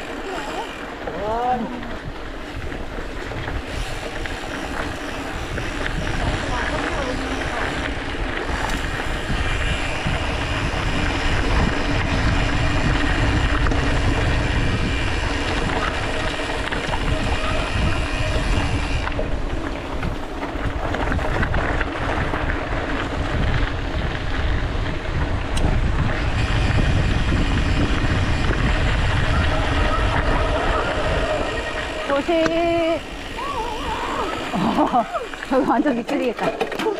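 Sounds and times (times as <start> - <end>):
wind buffeting microphone: 0.0 - 36.4
bike clicks and rattles: 0.0 - 36.9
bike tyres rolling on rough road: 0.0 - 36.9.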